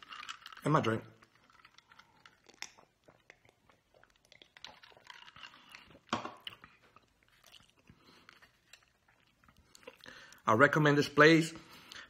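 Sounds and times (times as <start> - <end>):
person chewing: 0.0 - 10.4
person drinking: 0.0 - 10.5.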